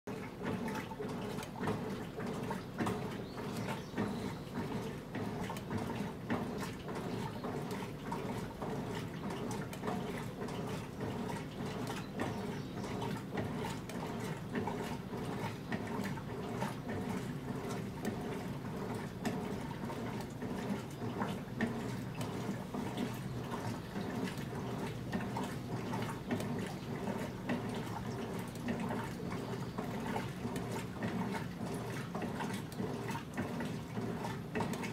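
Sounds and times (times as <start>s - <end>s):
washing machine churning: 0.1s - 34.9s
water sloshing: 0.1s - 34.9s.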